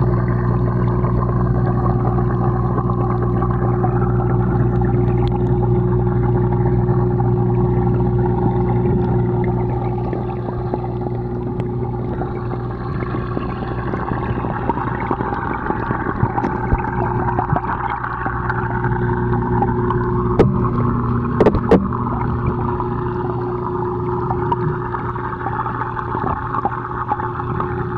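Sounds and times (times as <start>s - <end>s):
aquarium pump humming: 0.0s - 27.9s
water bubbling: 0.0s - 27.9s.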